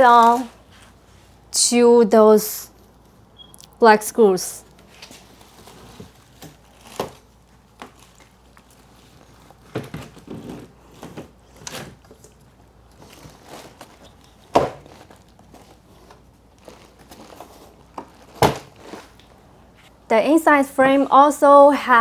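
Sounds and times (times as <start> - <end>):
rustling handling noise: 0.0 - 1.5, 4.6 - 21.2.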